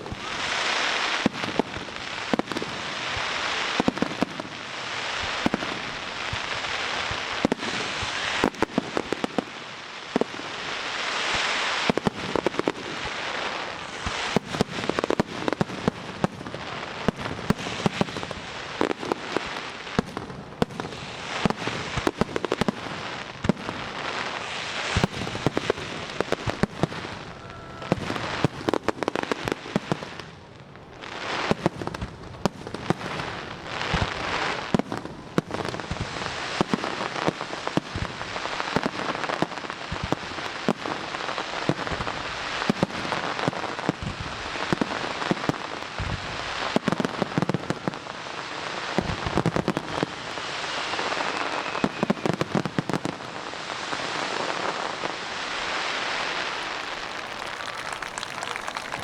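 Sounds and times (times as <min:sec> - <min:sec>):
fireworks cracks and bangs: 0:00.0 - 0:48.0, 0:51.9 - 0:59.0
hissing crackle of fireworks: 0:00.0 - 0:59.0.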